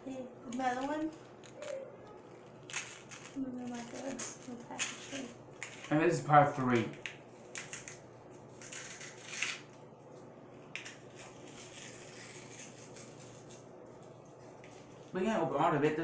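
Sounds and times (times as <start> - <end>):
candy wrapper crinkling: 0.5 - 6.0, 6.6 - 9.7, 10.8 - 15.2.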